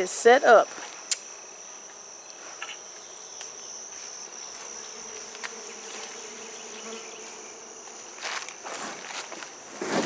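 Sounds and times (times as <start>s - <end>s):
high-pitched insect trill: 0.0s - 10.0s
honeybees buzzing: 0.0s - 10.0s.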